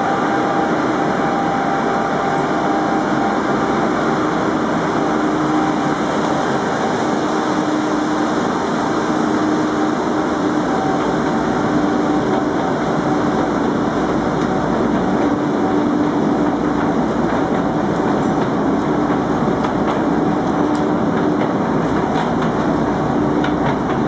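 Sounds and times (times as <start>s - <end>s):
monorail locomotive running: 0.0s - 24.0s.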